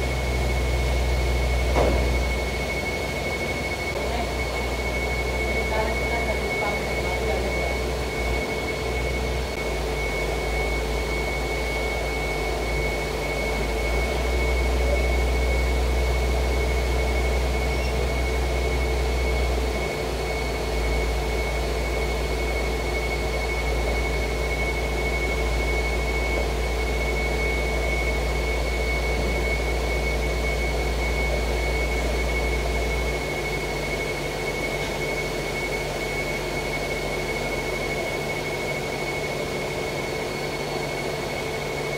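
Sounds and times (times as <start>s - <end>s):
high whine: 0.0s - 41.9s.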